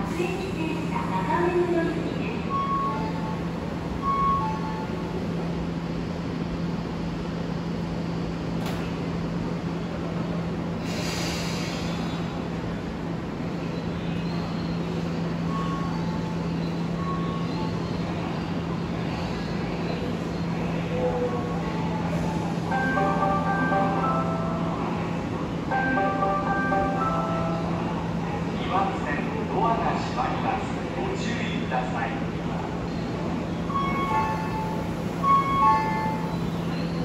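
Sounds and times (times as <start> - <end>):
train equipment humming: 0.0 - 37.0.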